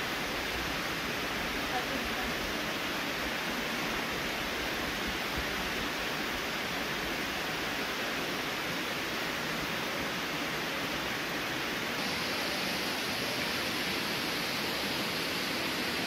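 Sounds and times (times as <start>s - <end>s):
stream pouring over rocks: 0.0s - 16.0s.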